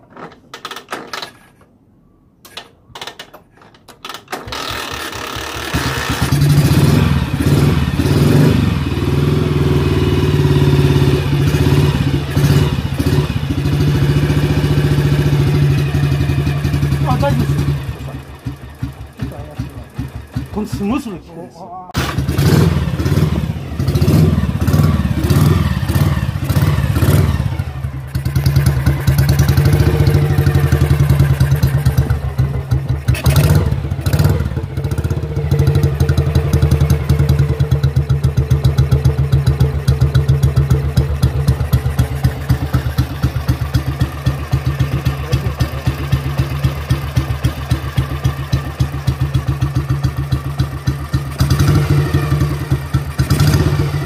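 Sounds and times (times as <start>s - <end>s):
motorcycle engine idling: 5.0s - 21.2s, 22.0s - 54.0s.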